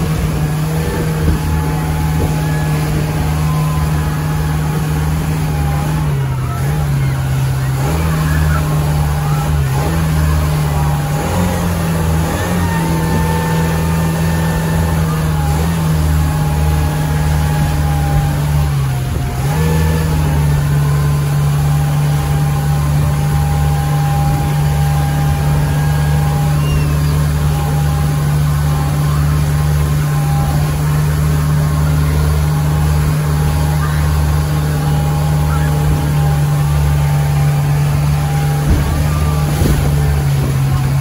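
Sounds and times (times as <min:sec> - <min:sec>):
churning wake rushing: 0:00.0 - 0:41.0
motorboat engine running: 0:00.0 - 0:41.0.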